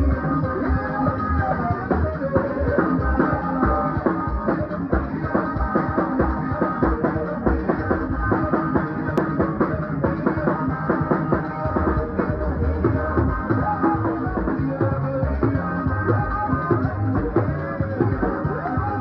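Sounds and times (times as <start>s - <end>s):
band music with drums and guitar: 0.0s - 19.0s.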